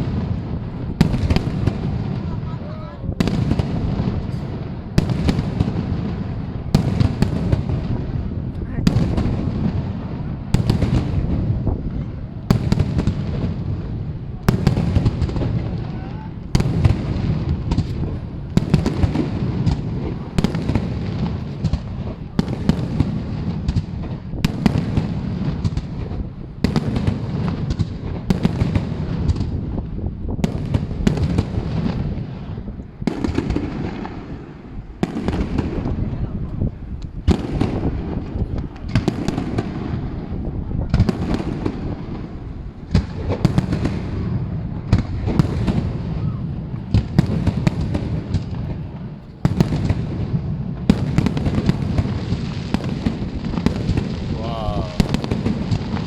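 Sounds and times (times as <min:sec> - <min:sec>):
fireworks bangs: 0:00.0 - 0:56.0
low rumble of fireworks: 0:00.0 - 0:56.0.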